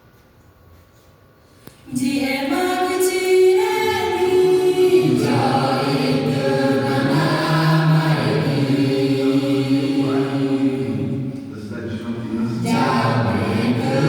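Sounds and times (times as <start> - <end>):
choir singing held notes: 1.9 - 14.0.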